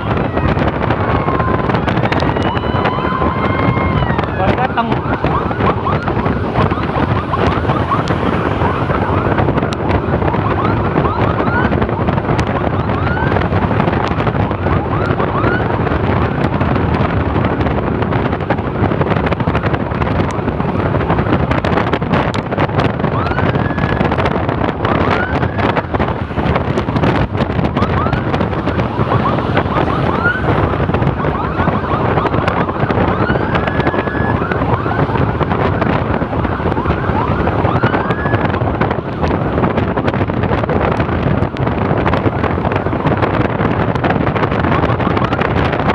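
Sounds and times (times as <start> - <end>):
emergency siren whoops: 0.0 - 45.9
moving vehicle noise: 0.0 - 45.9
wind noise on microphone: 0.0 - 45.9.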